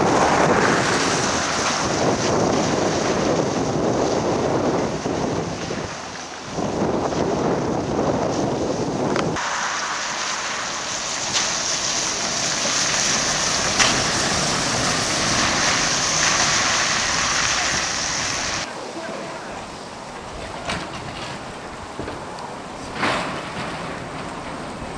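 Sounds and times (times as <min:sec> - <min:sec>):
trolleybus tyres hissing on wet road: 0:00.0 - 0:24.9
wind rumbling on microphone: 0:00.0 - 0:24.9.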